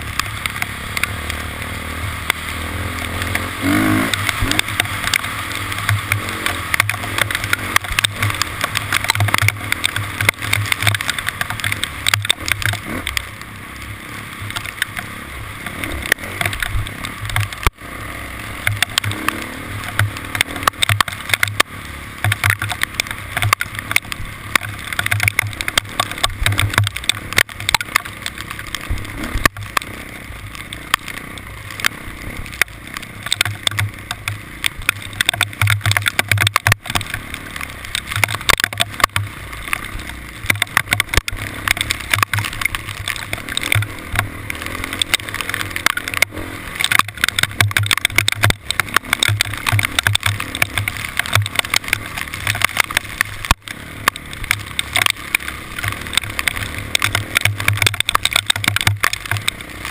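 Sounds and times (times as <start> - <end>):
road and wind noise: 0.0 - 59.9
hail striking a vehicle: 4.1 - 17.8, 18.6 - 59.9.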